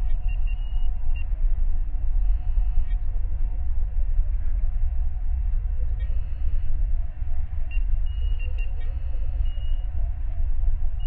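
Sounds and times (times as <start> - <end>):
deep engine rumble: 0.0 - 11.0.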